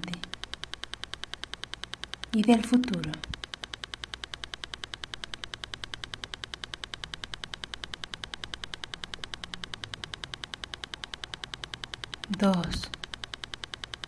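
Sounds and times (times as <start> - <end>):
rapid clicking pulse: 0.0 - 14.0.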